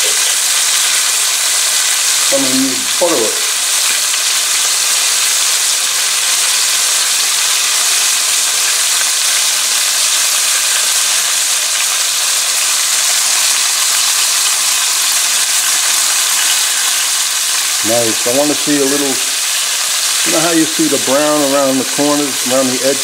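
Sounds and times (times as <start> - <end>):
chicken sizzling in oil: 0.0 - 23.0.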